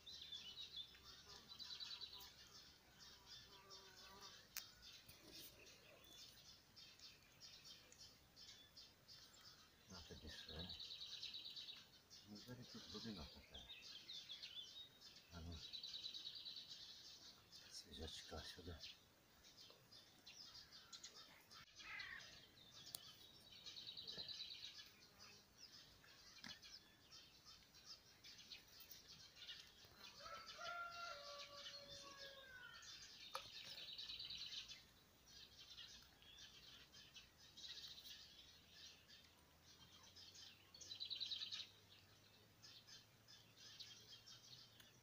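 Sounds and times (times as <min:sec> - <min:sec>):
faint birdsong trills: 0:00.0 - 0:45.0.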